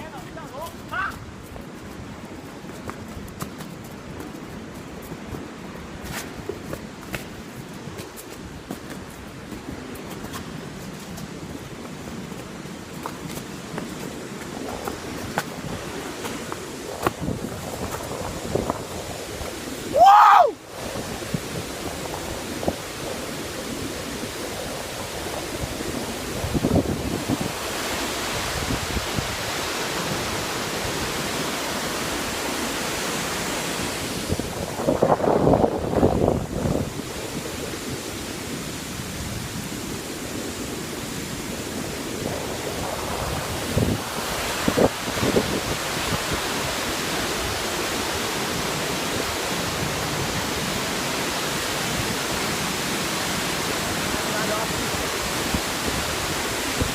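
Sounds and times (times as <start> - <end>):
waterfall rushing: 0.0 - 2.9, 8.6 - 56.9.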